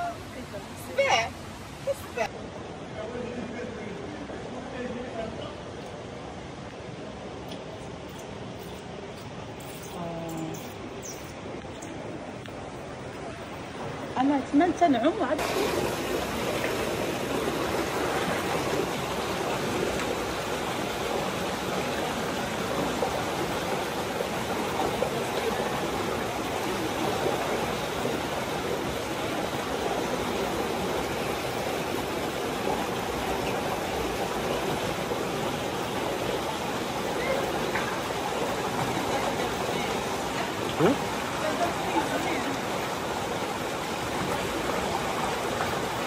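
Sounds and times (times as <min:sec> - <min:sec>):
river water rushing: 0:05.6 - 0:46.0.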